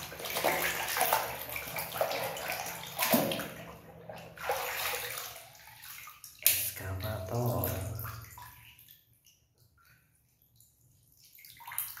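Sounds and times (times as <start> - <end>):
soapy water sloshing and splashing: 0.0 - 12.0.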